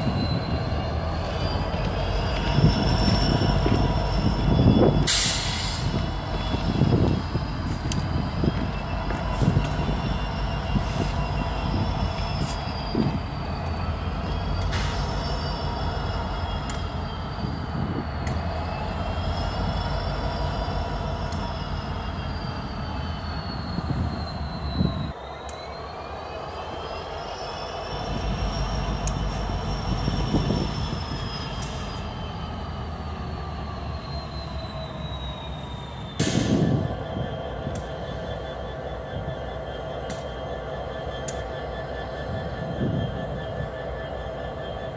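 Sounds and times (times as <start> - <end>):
diesel locomotive engine rumble: 0.0 - 44.9
wheel flanges squealing: 0.0 - 44.9.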